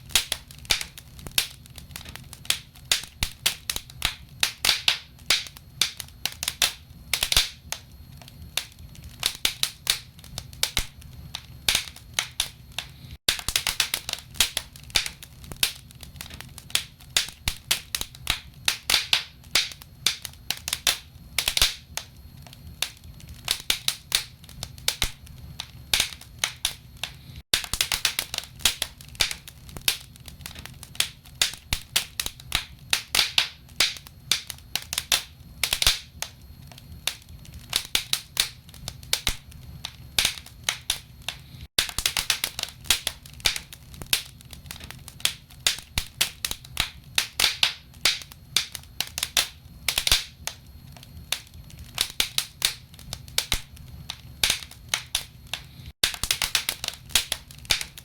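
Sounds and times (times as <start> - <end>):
firewood crackling in fireplace: 0.0 - 58.0.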